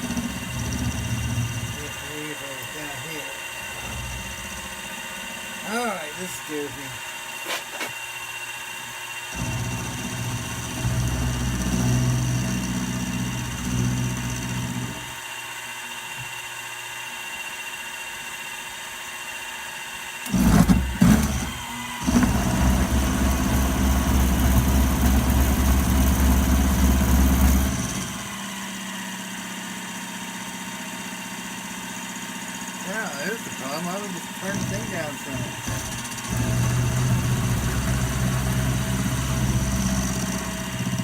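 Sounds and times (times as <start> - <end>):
cutter cutting metal: 0.0 - 8.2, 9.2 - 15.2, 20.2 - 41.0
milling machine running: 0.0 - 19.4, 20.2 - 41.0.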